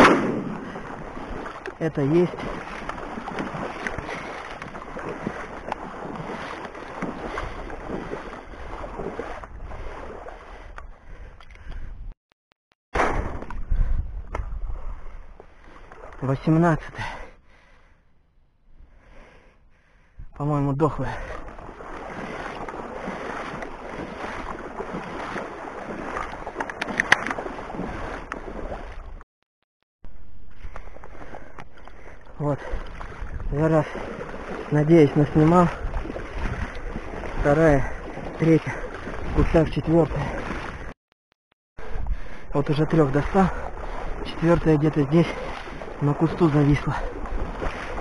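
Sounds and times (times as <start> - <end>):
boots wading through water: 0.0 - 11.8, 14.7 - 17.3, 20.8 - 29.2, 30.4 - 41.0, 41.8 - 48.0.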